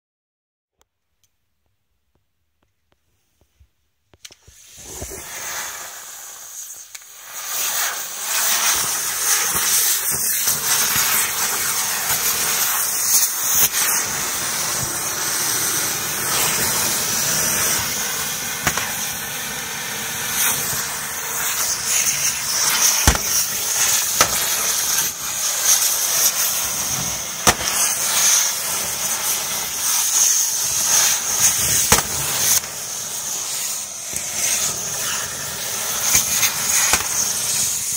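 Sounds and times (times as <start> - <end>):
fireworks hissing and crackling: 3.4 - 37.9.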